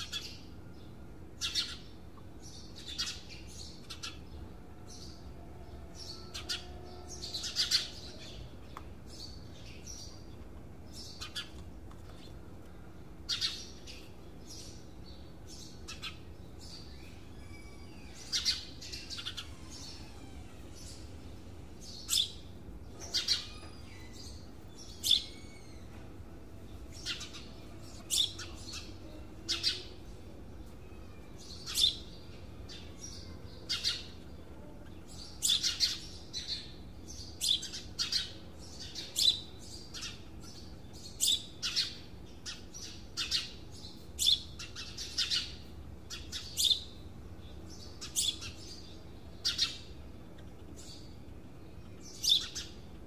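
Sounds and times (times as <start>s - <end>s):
birds chirping: 0.0s - 53.0s
faint steady hum: 0.0s - 53.0s.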